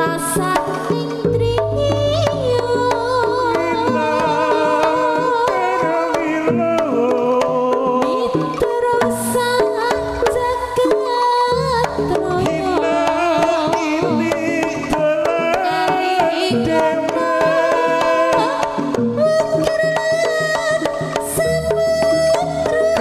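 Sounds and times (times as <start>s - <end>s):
hand drums beating: 0.0s - 23.0s.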